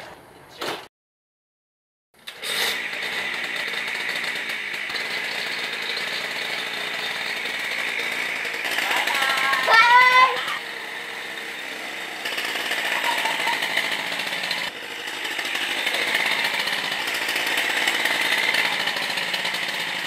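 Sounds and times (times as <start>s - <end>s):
scooter engine buzzing: 2.2s - 20.0s.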